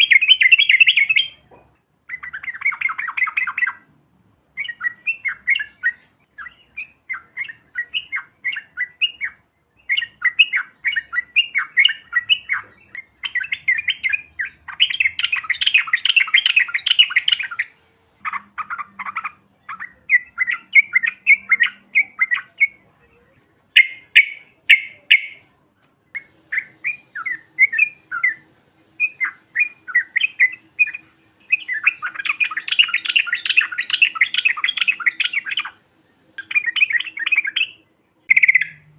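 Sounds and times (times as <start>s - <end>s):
bird rapid trill: 0.0s - 1.5s, 4.6s - 22.8s, 26.2s - 38.9s
bird singing chattering notes: 0.0s - 1.5s, 2.1s - 3.9s, 4.6s - 25.5s, 26.1s - 38.9s.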